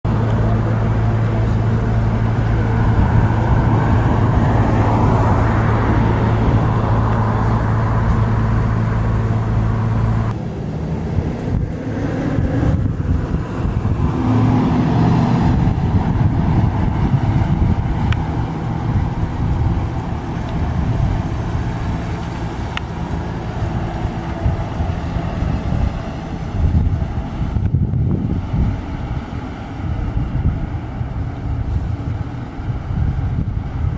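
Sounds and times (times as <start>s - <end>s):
low engine hum: 0.0s - 33.9s
passing traffic: 0.0s - 33.9s
van road noise: 0.0s - 33.9s.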